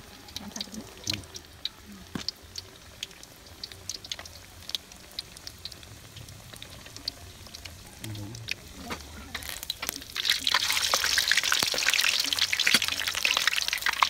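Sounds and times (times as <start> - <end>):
hot oil crackling: 0.0 - 14.0
oil popping and spitting: 0.3 - 14.0.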